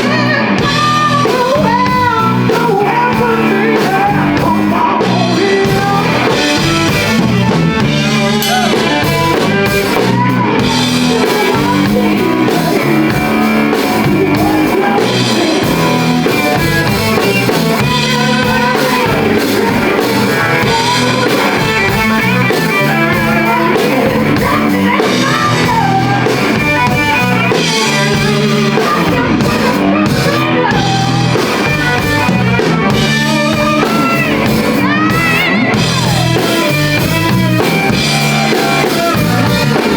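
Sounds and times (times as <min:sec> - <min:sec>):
drum kit: 0:00.0 - 0:39.9
electric guitar: 0:00.0 - 0:39.9
live rock band playing: 0:00.0 - 0:39.9.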